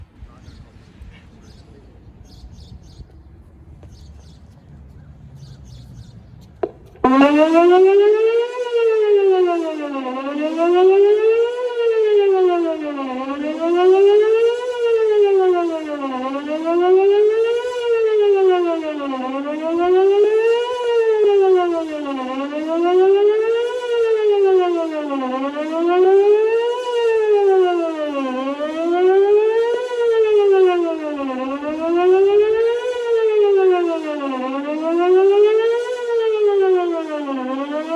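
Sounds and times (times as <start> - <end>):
warning siren wailing: 0.0 - 37.9.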